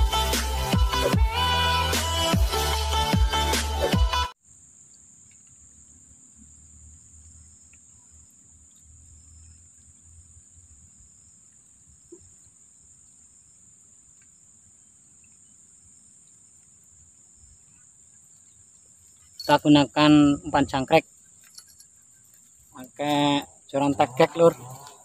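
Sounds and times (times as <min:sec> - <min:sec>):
insects trilling: 0:04.3 - 0:25.0.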